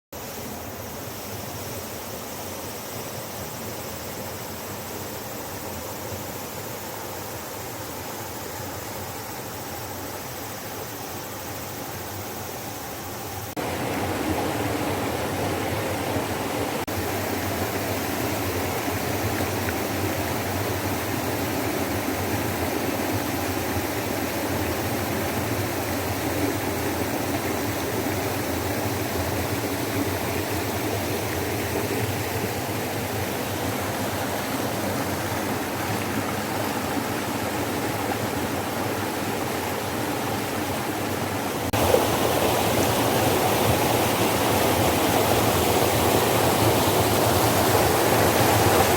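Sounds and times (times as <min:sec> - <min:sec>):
stream water rushing: 0:00.2 - 0:48.9.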